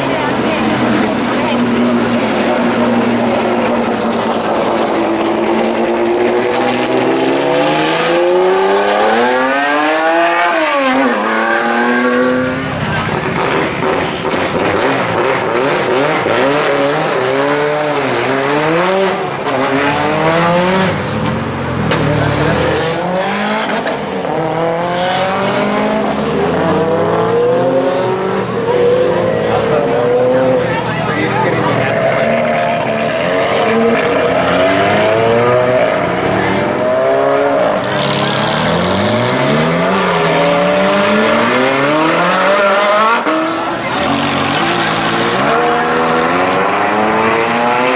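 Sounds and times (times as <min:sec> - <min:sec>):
car engine revving hard: 0:00.0 - 0:47.9.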